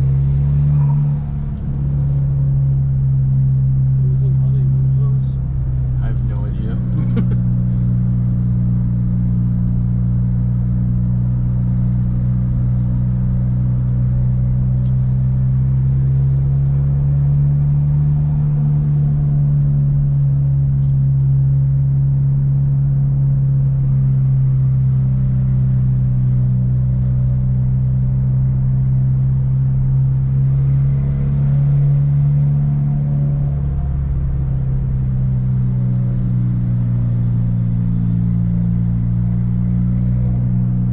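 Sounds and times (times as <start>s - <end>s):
car engine and road drone: 0.0s - 40.9s.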